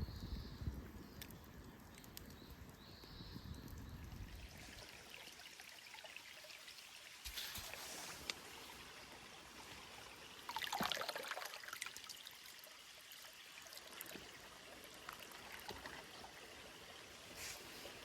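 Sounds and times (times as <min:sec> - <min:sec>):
water trickling: 0:00.1 - 0:18.0.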